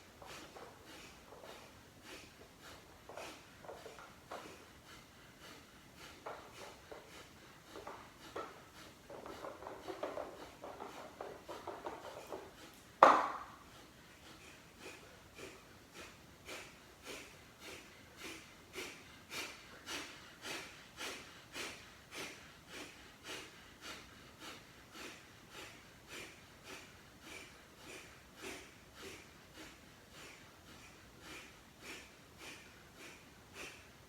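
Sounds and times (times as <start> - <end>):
forceful nasal exhalations: 0.0 - 34.0.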